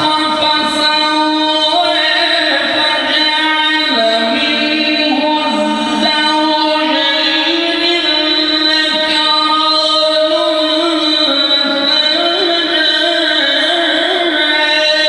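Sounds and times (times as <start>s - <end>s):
man reciting melodically into microphone: 0.0s - 15.0s.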